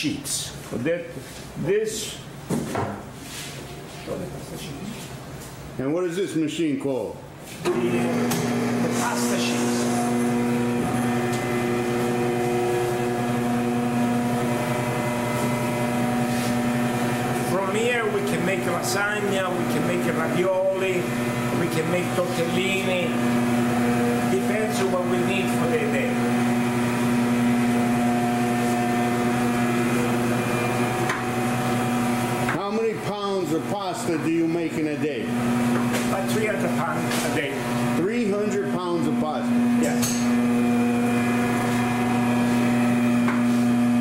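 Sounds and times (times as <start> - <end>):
pasta machine motor hum: 7.6 - 34.6, 35.2 - 44.0.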